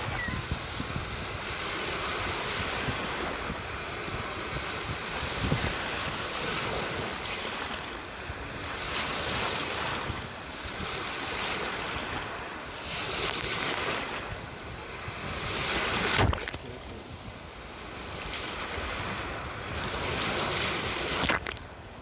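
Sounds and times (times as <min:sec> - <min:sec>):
wind buffeting microphone: 0:00.0 - 0:21.5
sea waves washing in: 0:00.0 - 0:22.0.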